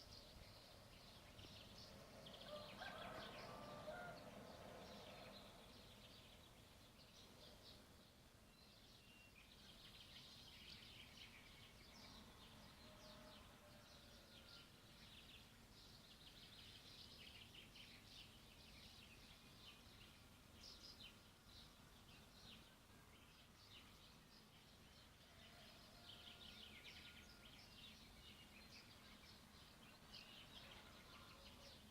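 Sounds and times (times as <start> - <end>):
faint birds chirping: 0.0 - 31.9.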